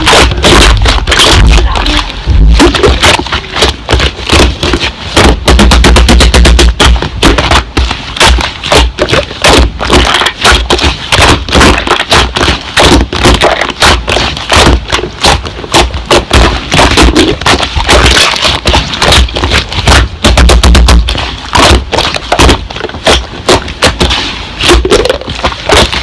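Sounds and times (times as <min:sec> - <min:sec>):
low thumps: 0:00.0 - 0:26.0.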